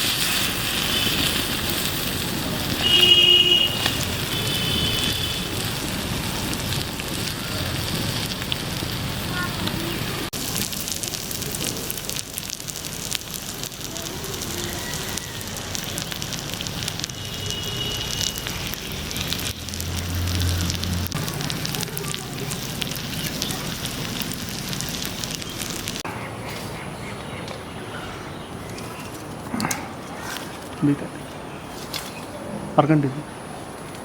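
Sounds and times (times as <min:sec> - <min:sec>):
fire crackling: 0:00.0 - 0:34.0.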